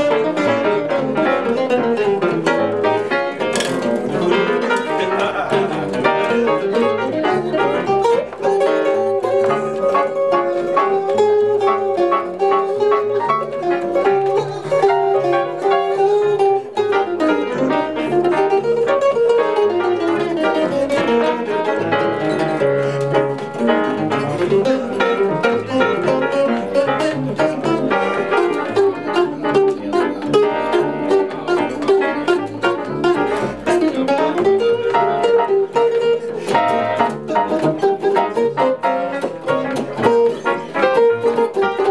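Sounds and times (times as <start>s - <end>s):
jazz guitar solo: 0.0s - 41.9s
plucked upright bass: 0.0s - 41.9s.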